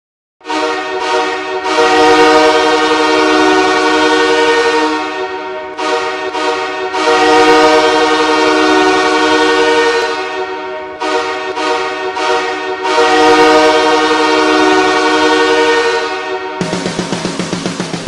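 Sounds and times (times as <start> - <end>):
goal horn blasting: 0.4 - 17.6.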